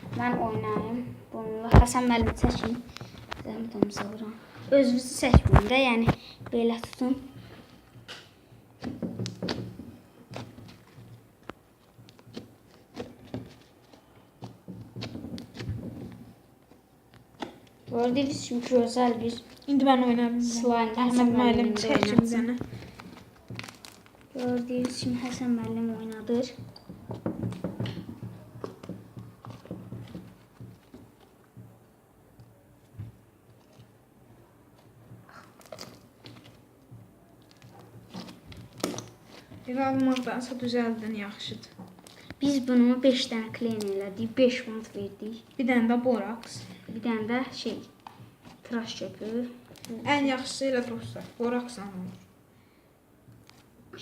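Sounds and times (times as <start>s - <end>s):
small crackles and pops: 1.6s - 4.3s, 5.2s - 34.0s, 34.6s - 52.3s, 53.2s - 54.0s
slime squishing: 1.7s - 31.8s, 32.4s - 52.2s.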